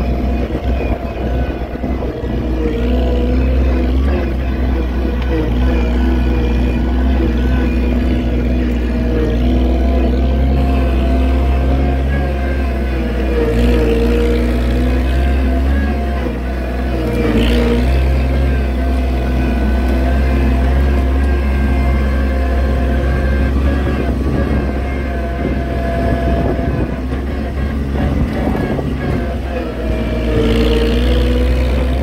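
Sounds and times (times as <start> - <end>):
tractor engine under load: 0.0 - 32.0.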